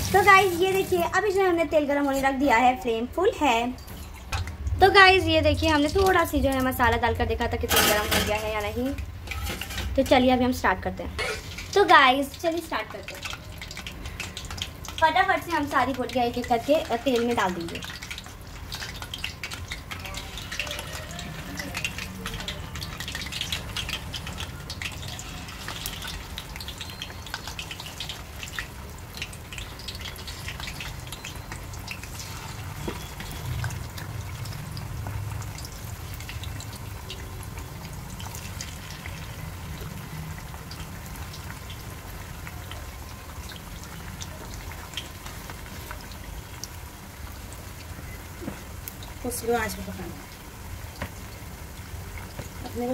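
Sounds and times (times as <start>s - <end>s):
chicken deep-frying in hot oil: 0.0s - 52.9s
oil crackling and popping: 0.0s - 52.9s.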